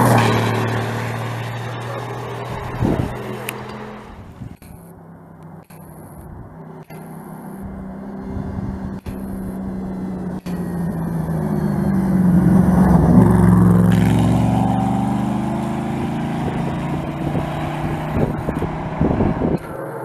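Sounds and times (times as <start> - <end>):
car engine passing at speed: 0.0 - 4.6, 6.4 - 20.0.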